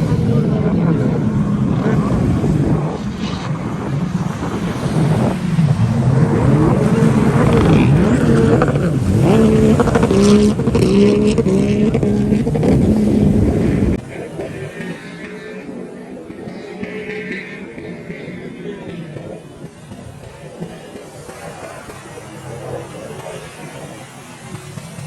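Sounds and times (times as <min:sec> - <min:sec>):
jet ski engines revving: 0:00.0 - 0:25.0.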